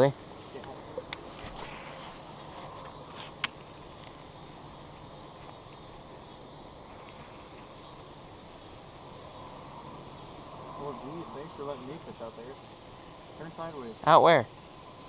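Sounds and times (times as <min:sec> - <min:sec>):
even outdoor hiss: 0:00.0 - 0:15.0.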